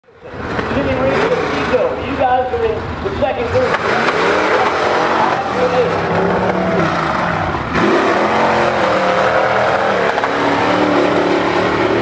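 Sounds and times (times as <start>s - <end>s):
truck engine revving: 0.2s - 12.0s.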